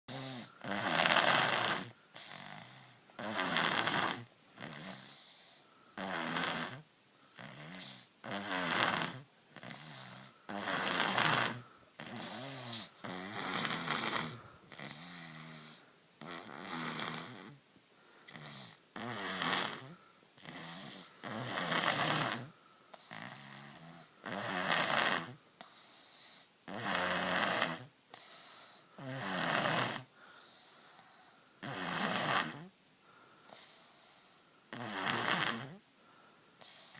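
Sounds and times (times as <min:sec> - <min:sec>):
baby snoring: 0:00.1 - 0:17.6, 0:18.2 - 0:32.7, 0:33.5 - 0:35.8, 0:36.6 - 0:36.9.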